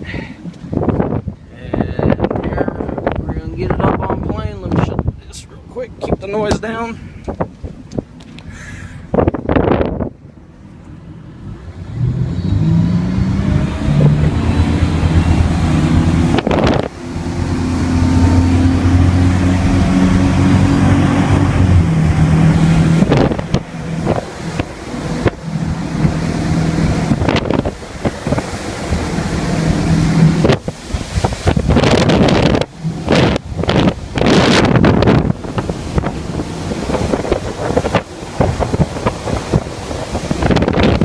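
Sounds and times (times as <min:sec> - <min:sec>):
boat engine droning: 0:00.0 - 0:41.0
wind buffeting microphone: 0:00.0 - 0:41.0.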